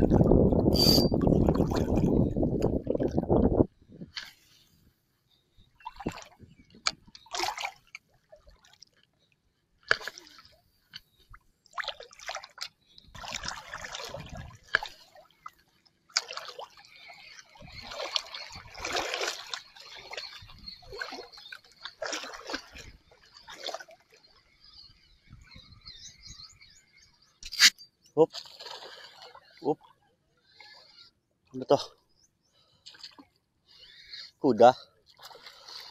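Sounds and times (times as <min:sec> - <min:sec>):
water sloshing and splashing: 0:00.0 - 0:04.8, 0:05.8 - 0:25.5, 0:27.5 - 0:31.1, 0:32.6 - 0:33.6, 0:34.5 - 0:35.9.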